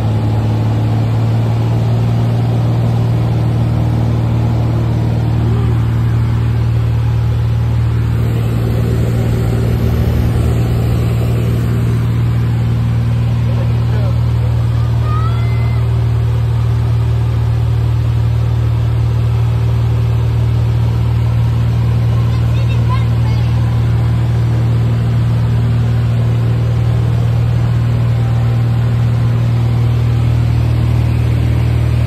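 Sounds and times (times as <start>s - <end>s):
aircraft engine droning in cabin: 0.0s - 32.0s.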